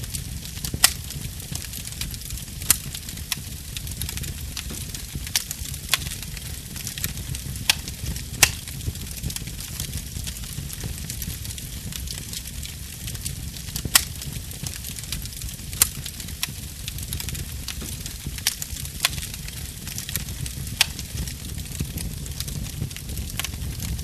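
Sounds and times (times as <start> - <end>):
fire rumbling and crackling: 0.0 - 24.0
sharp pops of burning wood: 0.1 - 24.0.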